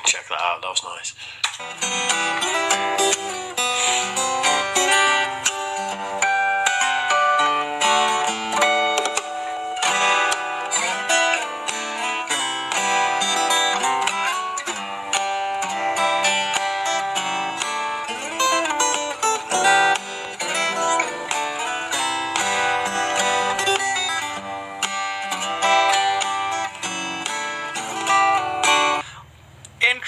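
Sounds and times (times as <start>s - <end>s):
plucked guitar music: 1.4s - 29.0s.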